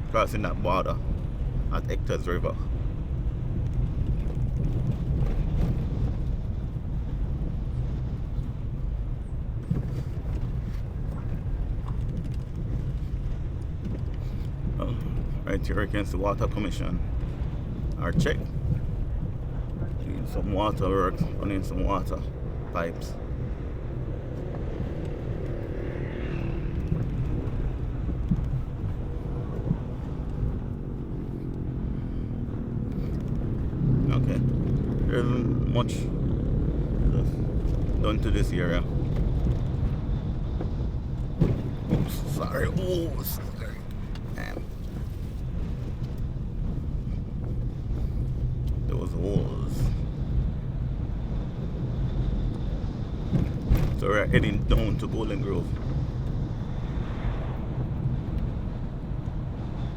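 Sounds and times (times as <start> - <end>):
engine and tyres rumbling: 0.0 - 59.9
wind noise: 0.0 - 59.9.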